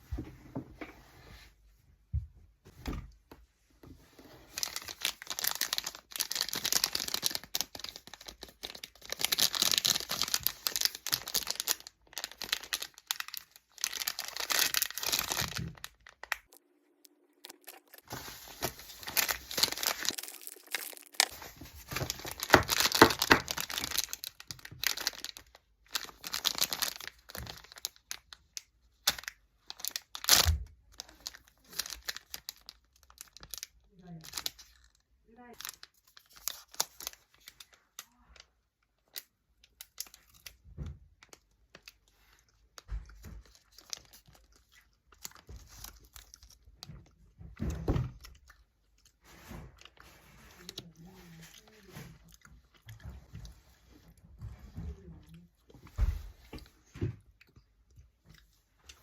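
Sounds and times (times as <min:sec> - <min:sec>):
food wrapper crinkling and tearing: 0:04.5 - 0:54.2.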